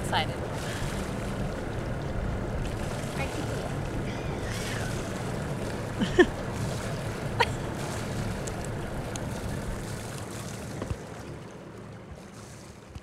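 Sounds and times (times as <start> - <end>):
low steady hum: 0.0 - 13.0
water splashing against hull: 0.0 - 13.0
wind: 0.0 - 13.0.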